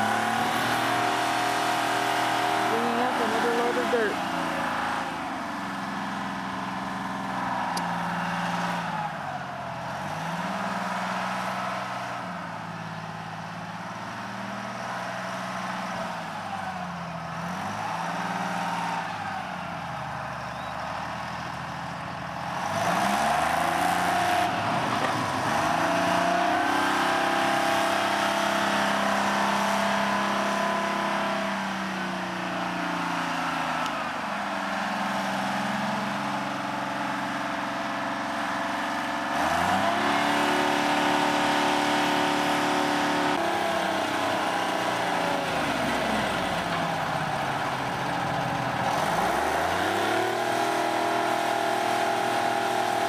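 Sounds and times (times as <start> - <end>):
digging machine engine labouring: 0.0 - 53.0.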